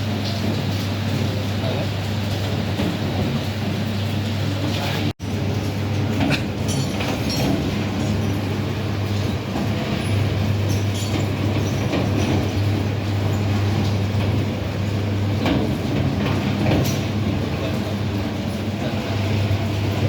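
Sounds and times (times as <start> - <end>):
drum dryer machine hum: 0.0 - 20.0.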